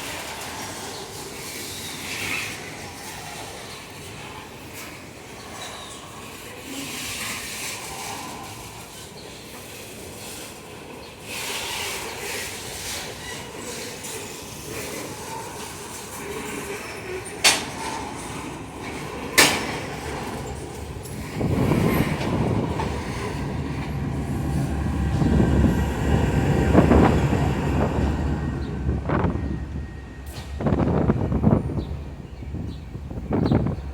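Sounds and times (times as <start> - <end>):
freight train wheels on rails: 0.0 - 33.9.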